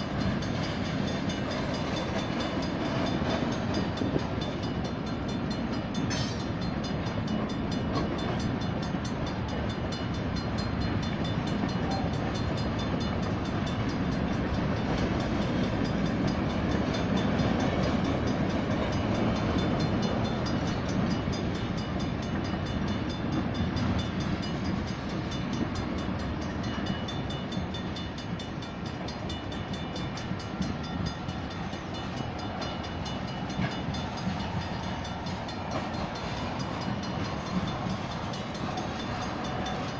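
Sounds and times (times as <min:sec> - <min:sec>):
crossing bells ringing: 0:00.0 - 0:39.9
freight cars rolling on rails: 0:00.0 - 0:39.9.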